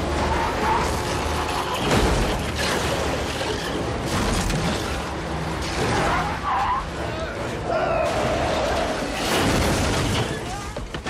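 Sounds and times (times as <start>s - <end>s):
continuous rumble: 0.0s - 11.0s.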